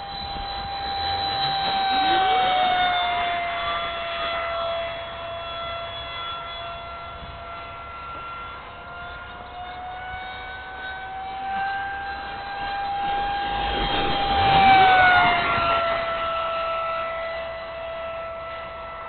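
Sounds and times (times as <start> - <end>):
electric ducted fan whining: 0.0 - 19.0.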